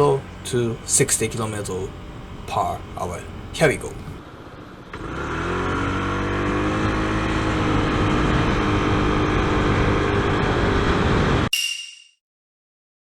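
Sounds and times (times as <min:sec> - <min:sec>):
scooter engine accelerating: 0:00.0 - 0:11.5.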